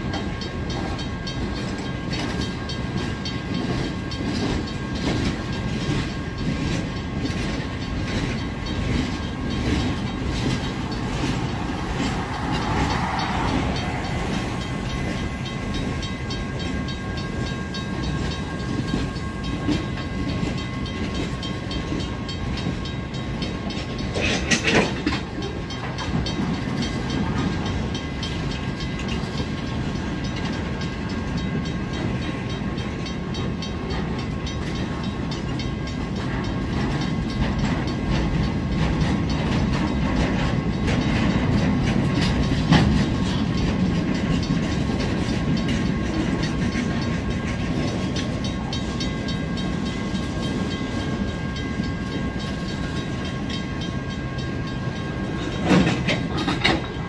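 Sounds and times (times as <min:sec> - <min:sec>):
train wheels clattering over rails: 0:00.0 - 0:57.0.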